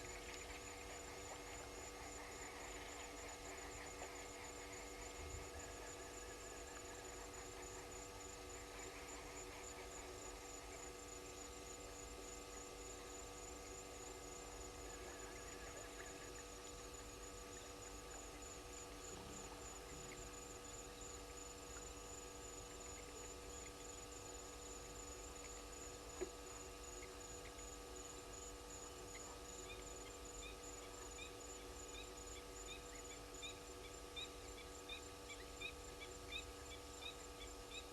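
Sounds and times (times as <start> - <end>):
faint electrical hum: 0.0 - 37.9.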